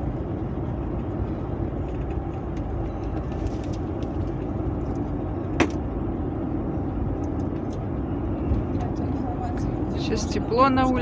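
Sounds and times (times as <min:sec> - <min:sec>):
van road and engine rumble: 0:00.0 - 0:11.0.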